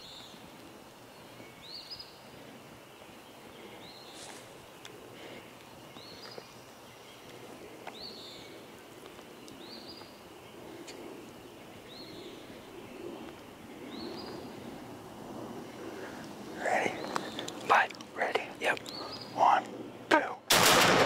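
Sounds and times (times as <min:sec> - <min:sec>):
songbird calling: 0:00.0 - 0:00.4, 0:01.1 - 0:14.8, 0:15.6 - 0:20.4
faint woodland rustle: 0:00.0 - 0:20.3.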